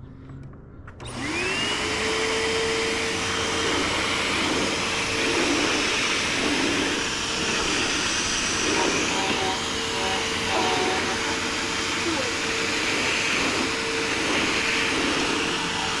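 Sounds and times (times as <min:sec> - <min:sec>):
vacuum cleaner motor whine: 0:01.0 - 0:16.0
rushing air: 0:01.1 - 0:16.0.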